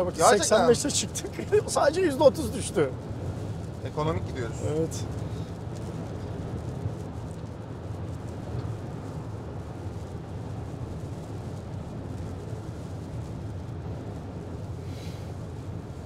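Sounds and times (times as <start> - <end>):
road and tyre rumble in car: 0.0 - 16.0.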